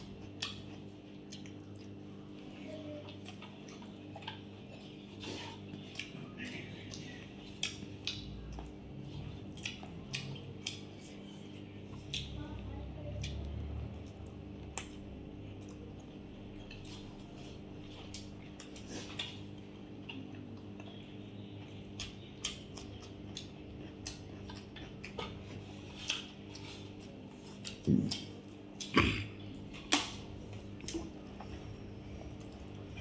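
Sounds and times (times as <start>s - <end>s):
chewing: 0.0s - 33.0s.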